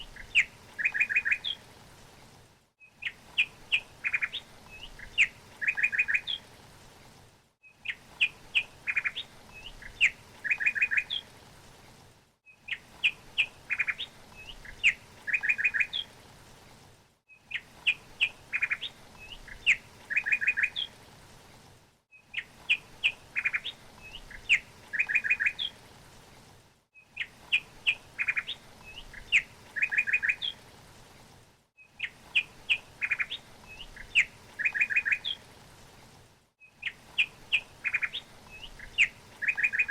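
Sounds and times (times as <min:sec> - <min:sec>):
songbird chirps and trills: 0:00.0 - 0:02.2, 0:02.8 - 0:16.7, 0:17.3 - 0:21.4, 0:22.1 - 0:30.8, 0:31.8 - 0:35.9, 0:36.6 - 0:39.9.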